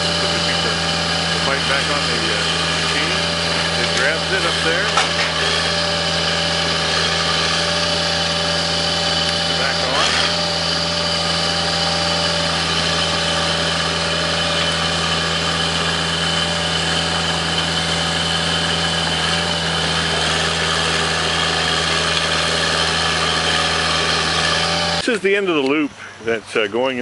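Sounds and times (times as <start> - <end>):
held whine: 0.0 - 25.8
drilling rig engine droning: 0.0 - 26.7.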